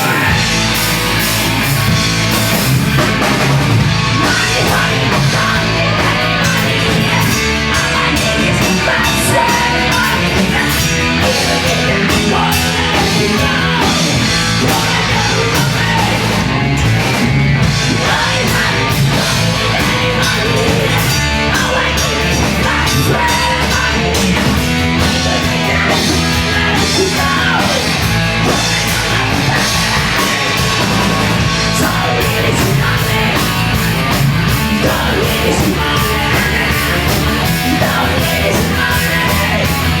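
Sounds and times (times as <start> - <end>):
heavy rock band playing: 0.0 - 40.0.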